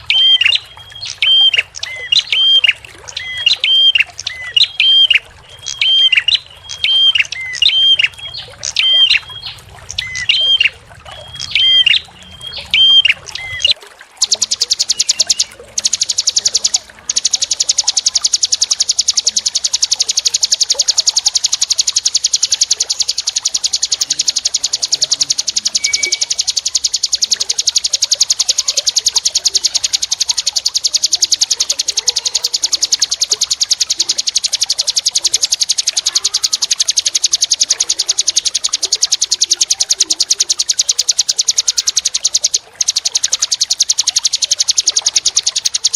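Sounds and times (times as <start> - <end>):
fast buzzing bird trill: 0.0 - 45.9.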